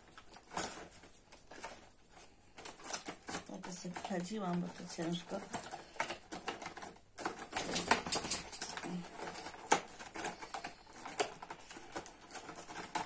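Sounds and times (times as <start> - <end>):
cardboard crackling and rustling: 0.0 - 13.0.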